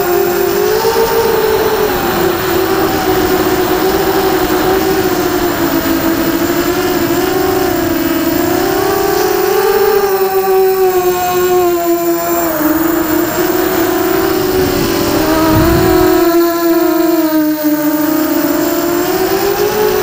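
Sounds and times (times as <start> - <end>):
drone motors and propellers whining: 0.0 - 20.0.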